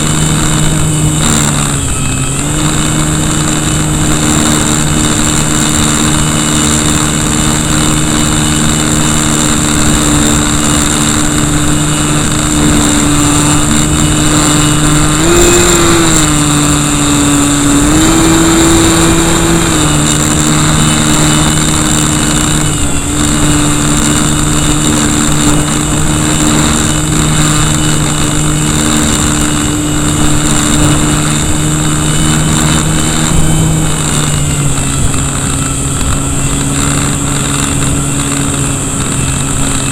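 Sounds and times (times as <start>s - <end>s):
electric motor and propeller whine: 0.0s - 39.9s
wind on microphone: 0.0s - 39.9s.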